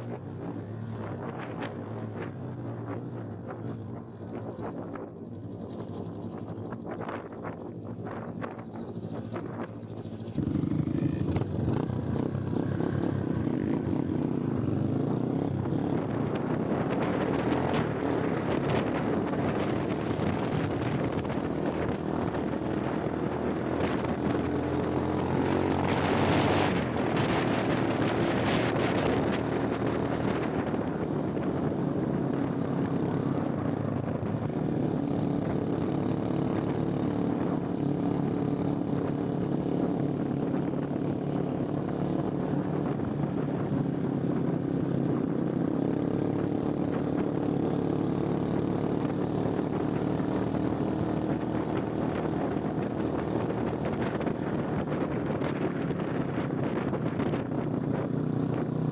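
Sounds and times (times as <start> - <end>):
motorcycle engine running: 0.0 - 58.9
wind rushing over microphone: 6.1 - 58.9.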